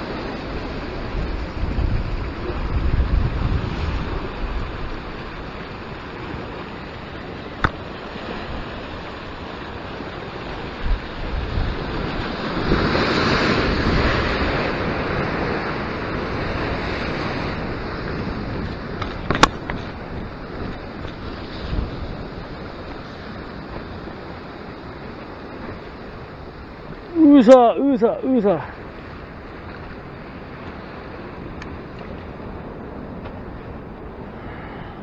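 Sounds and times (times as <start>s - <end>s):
ocean surf breaking on rocks: 0.0s - 35.0s
wind buffeting microphone: 0.0s - 35.0s.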